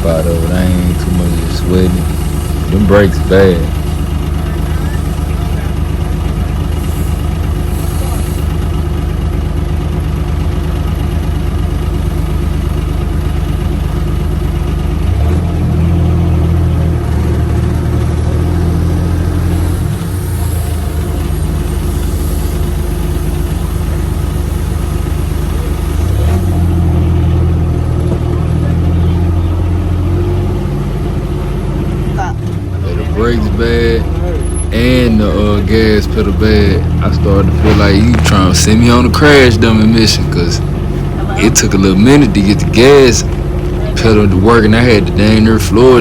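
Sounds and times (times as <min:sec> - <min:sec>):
engine idling: 0:00.0 - 0:46.0.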